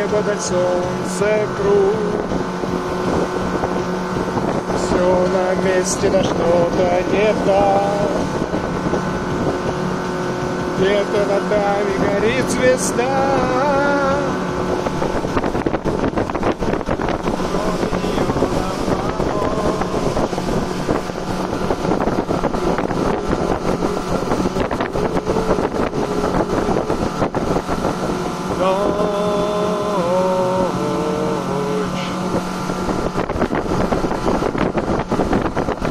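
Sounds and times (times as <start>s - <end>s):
motorboat engine running: 0.0s - 35.9s.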